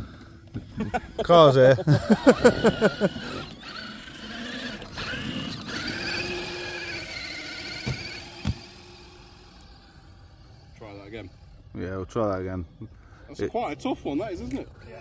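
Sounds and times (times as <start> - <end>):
rc truck motor whining: 0.0 - 15.0.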